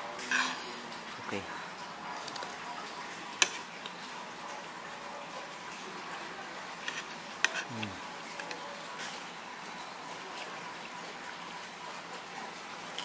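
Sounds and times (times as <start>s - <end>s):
restaurant background: 0.0s - 13.0s.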